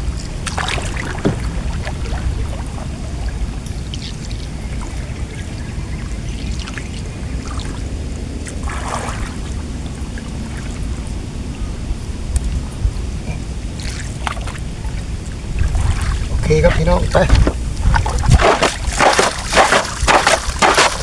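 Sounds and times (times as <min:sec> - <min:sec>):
steady low rumble: 0:00.0 - 0:21.0
water splashing and trickling: 0:00.0 - 0:21.0.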